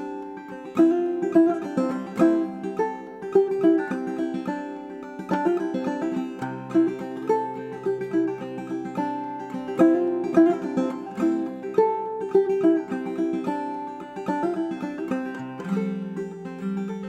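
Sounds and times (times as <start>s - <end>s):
clawhammer banjo melody: 0.0s - 17.0s.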